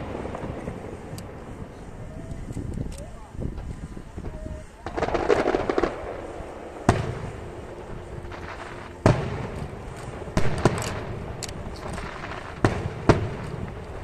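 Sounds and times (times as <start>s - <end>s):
firework rumble and crackle: 0.0s - 14.0s
firework shells bursting: 0.0s - 14.0s.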